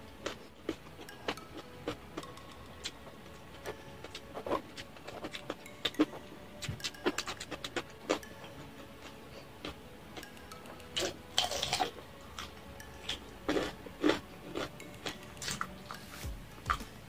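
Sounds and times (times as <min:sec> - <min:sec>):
crunchy chewing: 0:00.0 - 0:16.9.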